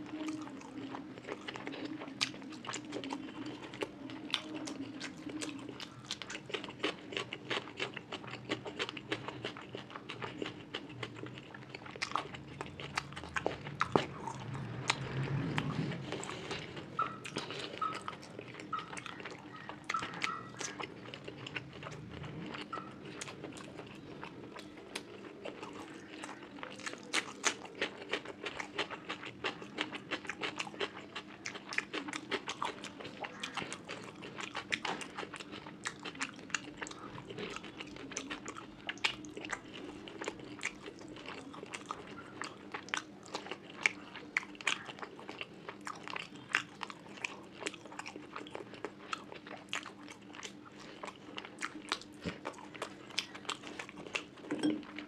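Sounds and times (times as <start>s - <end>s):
wet chewing and mouth smacks: 0.0s - 55.0s.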